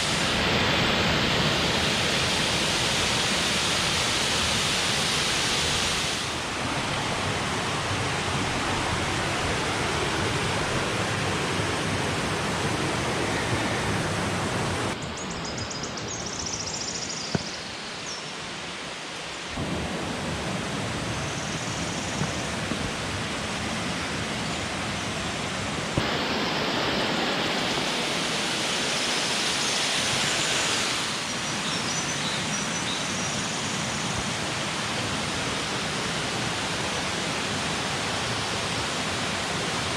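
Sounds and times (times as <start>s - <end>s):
waterfall rushing: 0.0s - 15.0s, 16.7s - 39.9s.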